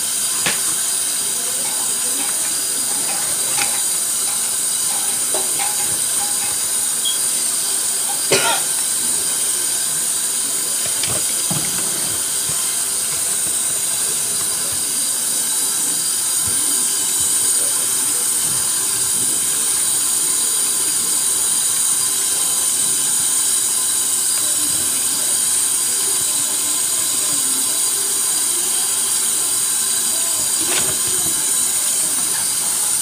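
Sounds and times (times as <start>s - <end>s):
tap water running into sink: 0.0s - 33.0s.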